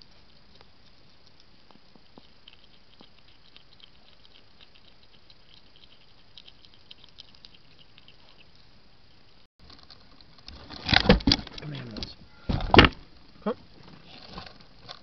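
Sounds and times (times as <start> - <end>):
hedgehog eating: 0.0 - 15.0.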